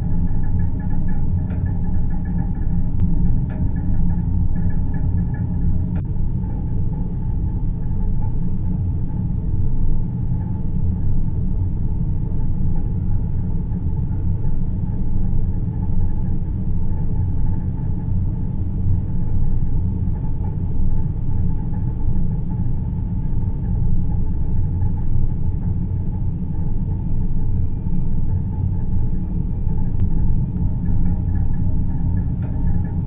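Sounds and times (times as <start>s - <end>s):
deep rumbling noise: 0.0s - 33.0s
faint high hum: 0.0s - 33.0s.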